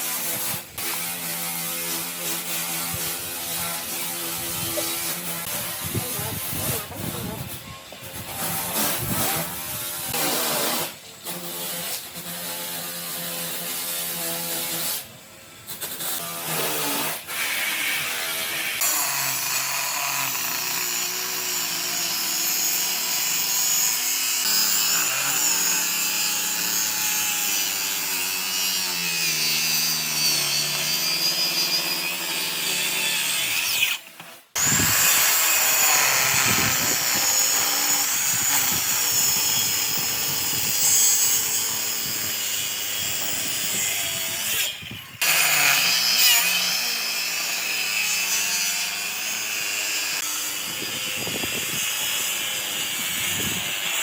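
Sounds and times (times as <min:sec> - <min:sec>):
power tool whining on wood: 0:00.0 - 0:54.0.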